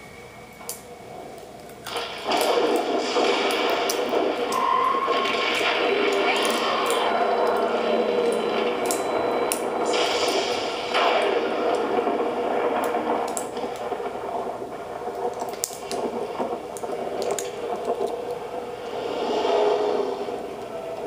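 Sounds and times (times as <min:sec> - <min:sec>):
rain on television speaker: 0:00.5 - 0:21.0.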